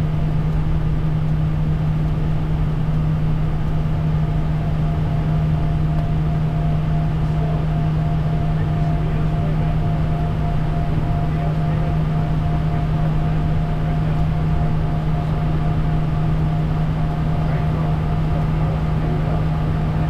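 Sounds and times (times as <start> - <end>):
deep cockpit hum: 0.0 - 20.0
jet engine and airflow rush: 0.0 - 20.0.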